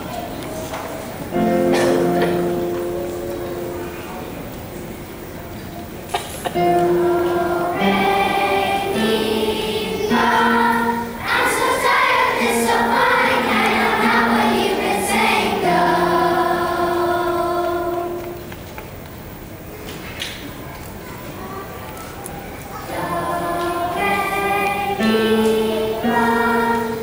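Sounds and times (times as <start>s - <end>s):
children's choir singing: 0.0s - 18.8s, 21.6s - 27.0s.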